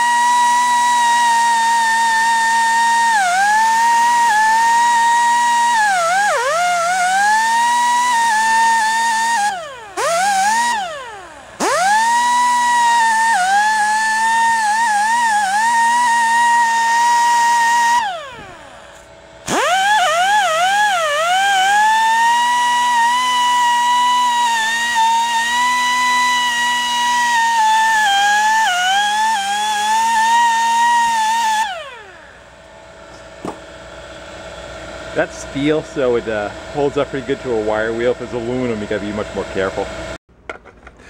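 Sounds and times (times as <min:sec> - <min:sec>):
die grinder whining on metal: 0:00.0 - 0:33.7, 0:34.6 - 0:40.1.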